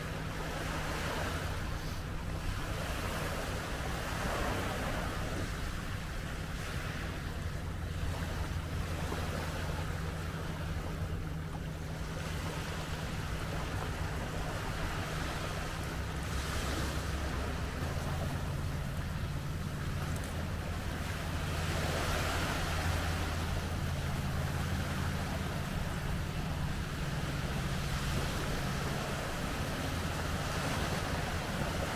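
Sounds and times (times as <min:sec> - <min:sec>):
low steady hum: 0:00.0 - 0:31.9
waves washing over pebbles: 0:00.0 - 0:31.9.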